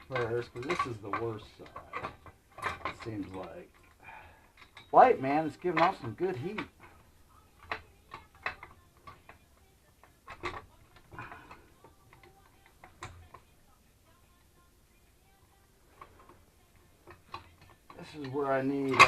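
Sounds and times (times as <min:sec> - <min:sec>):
metal tools clicking and tapping: 0:00.0 - 0:14.2, 0:15.3 - 0:19.0
faint low hum: 0:00.0 - 0:19.0.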